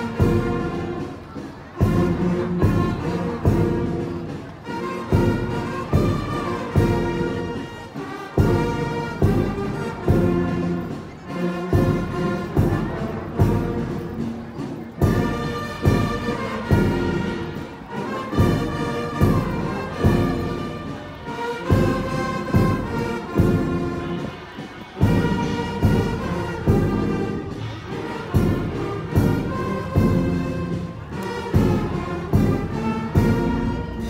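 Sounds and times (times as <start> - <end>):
heavy drum beat: 0.0 - 11.1, 11.7 - 34.0
brass band music: 0.0 - 34.0.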